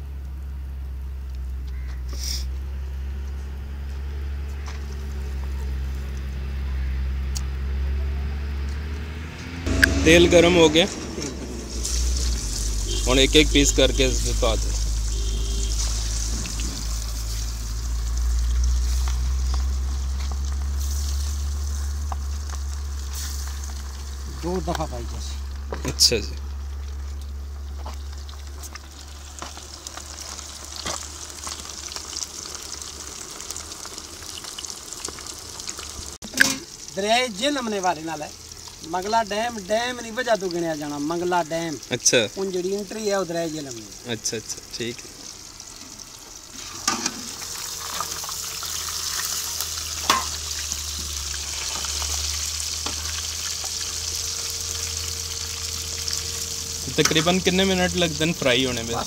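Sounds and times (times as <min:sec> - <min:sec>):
fish deep-frying in oil: 0:00.0 - 0:59.0
oil popping and crackling: 0:04.0 - 0:06.7, 0:08.6 - 0:59.0.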